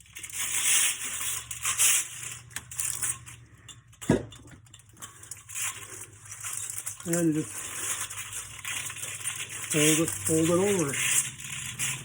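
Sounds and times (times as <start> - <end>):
metal fins crunching and scraping: 0.0 - 12.0.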